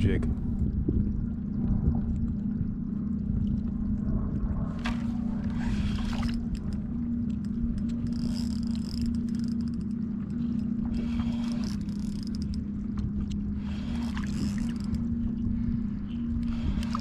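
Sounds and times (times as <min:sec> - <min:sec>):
low mechanical hum: 0:00.0 - 0:17.0
low rumble: 0:00.0 - 0:17.0.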